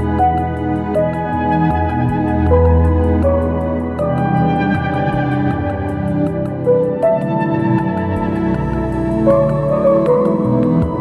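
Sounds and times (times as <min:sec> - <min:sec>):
sustained chords with slow melody: 0:00.0 - 0:11.0.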